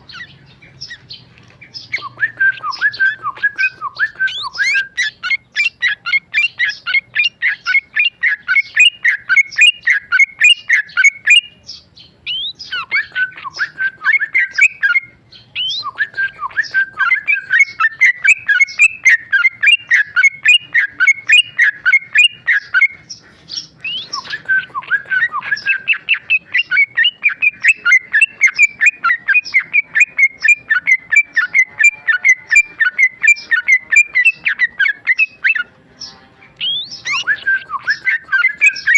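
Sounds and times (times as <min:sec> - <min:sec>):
bird chattering whistled song: 0:00.0 - 0:38.9.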